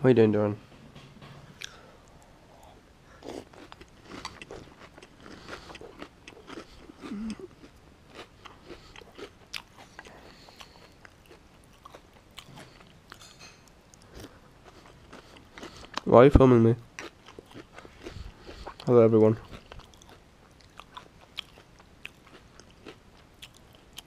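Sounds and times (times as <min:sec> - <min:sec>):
person chewing crunchy cereal: 0:01.6 - 0:16.1, 0:16.9 - 0:24.0.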